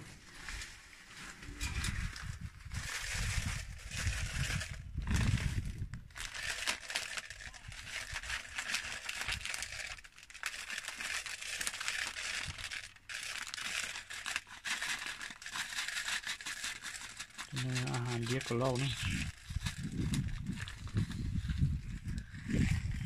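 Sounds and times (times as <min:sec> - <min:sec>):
plastic feed bag crinkling: 0:00.0 - 0:23.0.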